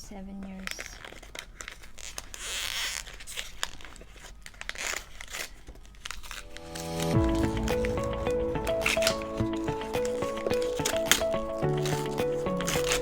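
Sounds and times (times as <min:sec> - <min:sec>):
packaging crinkling: 0:00.4 - 0:13.0
paper ripping: 0:00.7 - 0:13.0.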